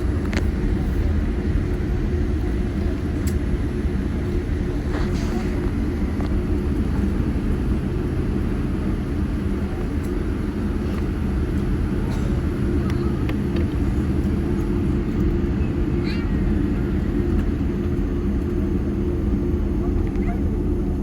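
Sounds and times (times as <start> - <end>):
airplane cabin rumble and hum: 0.0 - 21.0.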